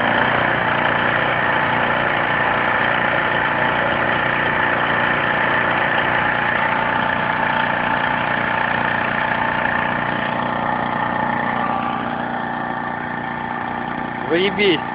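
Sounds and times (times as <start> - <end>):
alternator high whine: 0.0 - 14.9
petrol generator engine running: 0.0 - 14.9.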